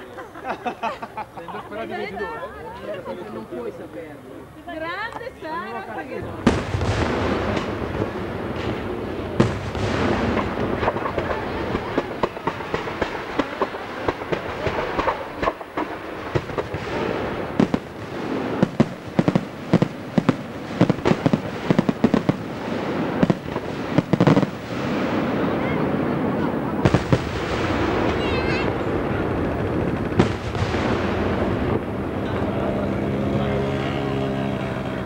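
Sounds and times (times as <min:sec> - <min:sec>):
fireworks bursting: 0:05.8 - 0:34.2
firework bangs and crackles: 0:06.0 - 0:35.0.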